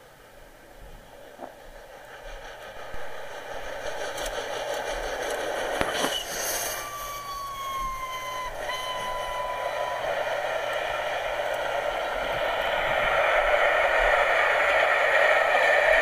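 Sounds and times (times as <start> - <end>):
steady steam hiss: 0.0 - 16.0
steam whistle: 2.7 - 16.0.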